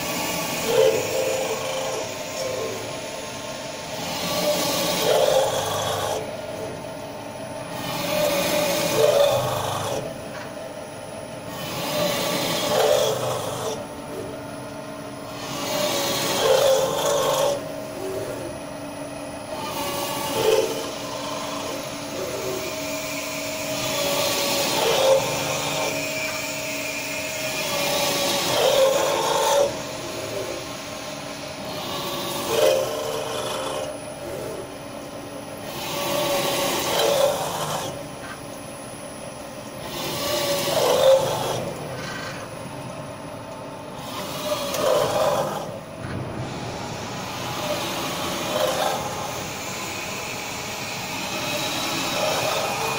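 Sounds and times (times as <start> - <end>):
drill cutting steel: 0.0 - 43.1, 43.8 - 52.9
machine hum: 0.0 - 52.9.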